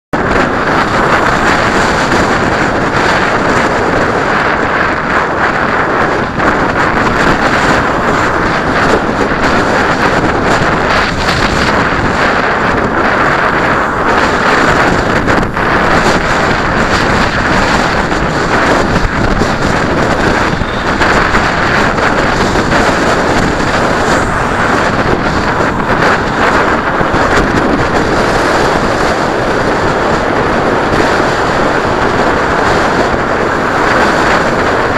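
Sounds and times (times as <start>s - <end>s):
road noise: 0.0s - 34.9s
wind rush over microphone: 0.0s - 34.9s.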